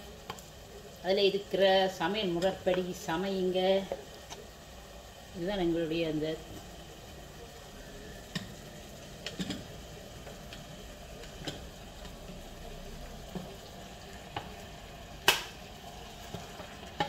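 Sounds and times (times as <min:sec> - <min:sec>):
faint frying sizzle: 0:00.0 - 0:17.0.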